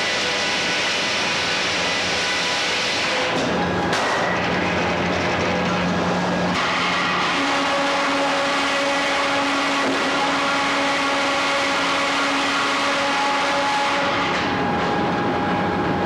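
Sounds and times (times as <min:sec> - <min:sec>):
sawmill mechanical drone: 0:00.0 - 0:16.0
steady whining tones: 0:00.0 - 0:16.0.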